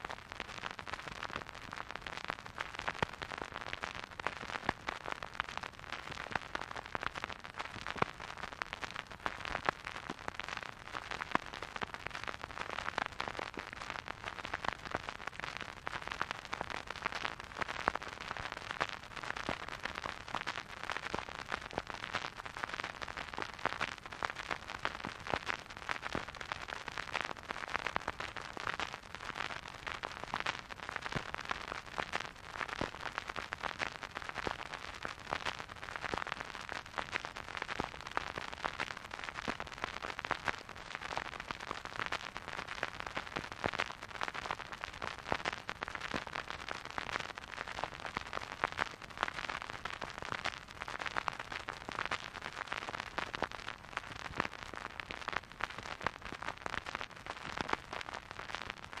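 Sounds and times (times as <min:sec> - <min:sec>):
vinyl record crackle and hiss: 0:00.0 - 0:59.0.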